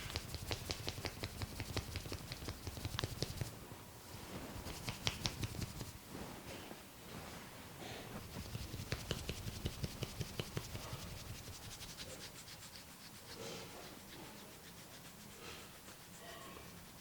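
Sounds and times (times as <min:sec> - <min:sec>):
hands rubbing hair and scalp: 0:00.0 - 0:17.0.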